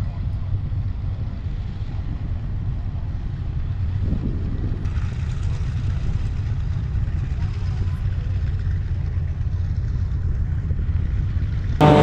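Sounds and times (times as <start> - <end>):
piston aircraft engines rumbling: 0.0 - 12.0.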